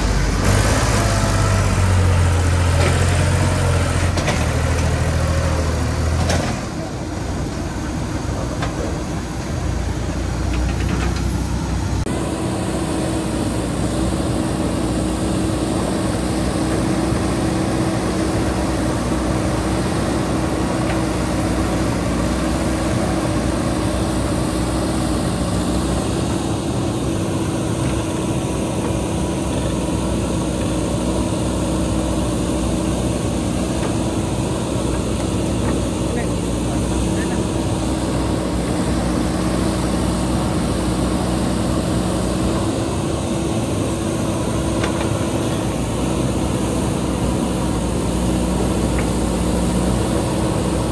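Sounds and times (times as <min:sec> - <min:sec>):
backhoe diesel engine droning: 0:00.0 - 0:50.9
tractor diesel engines running: 0:00.0 - 0:50.9.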